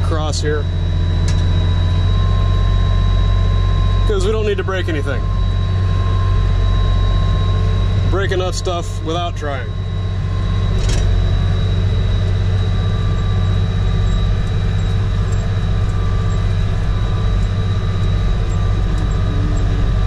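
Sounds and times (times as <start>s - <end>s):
high whine: 0.0s - 20.0s
tractor engine droning: 0.0s - 20.0s.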